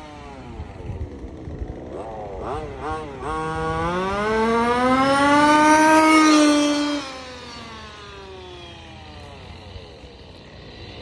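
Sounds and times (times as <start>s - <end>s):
rc car engine screaming past: 0.0s - 11.0s.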